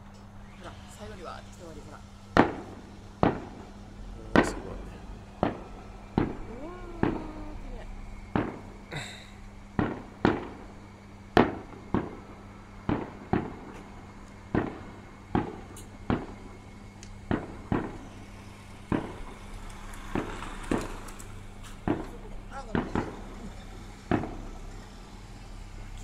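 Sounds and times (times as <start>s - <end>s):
firework shells bursting: 1.6s - 26.0s.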